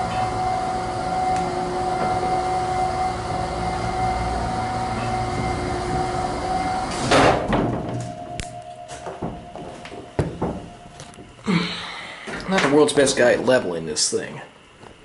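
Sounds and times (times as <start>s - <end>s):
elevator machine hum and whine: 0.0s - 15.0s.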